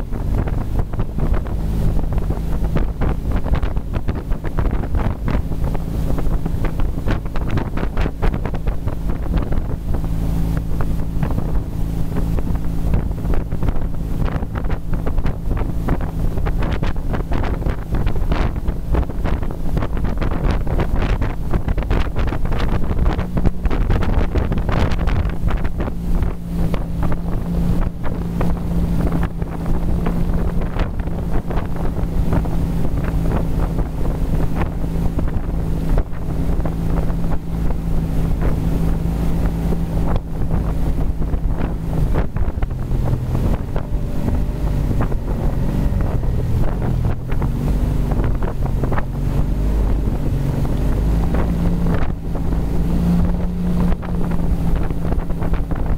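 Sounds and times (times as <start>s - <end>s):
boat engine droning: 0.0s - 55.9s
water rushing from wake: 0.0s - 55.9s
wind buffeting microphone: 0.0s - 55.9s.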